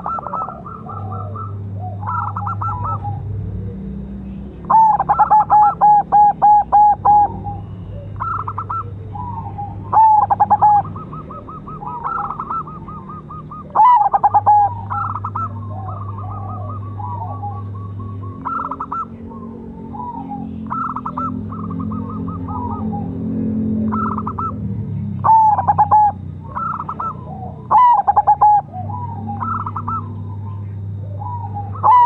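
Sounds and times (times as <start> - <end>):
dove cooing: 0.0 - 32.0.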